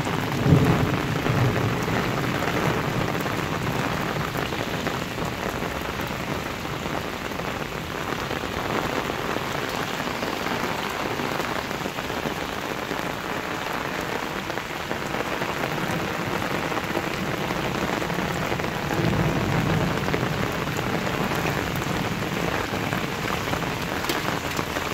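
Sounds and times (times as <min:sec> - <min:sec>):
heavy rain splashing into water: 0:00.0 - 0:24.9.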